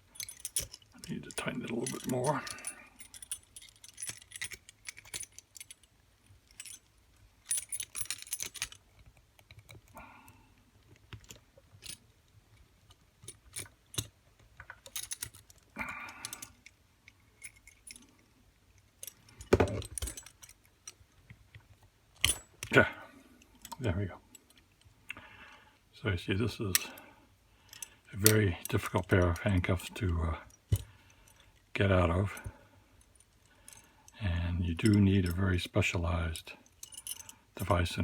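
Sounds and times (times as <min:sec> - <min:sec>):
handcuffs and chain rattling: 0:00.0 - 0:38.0.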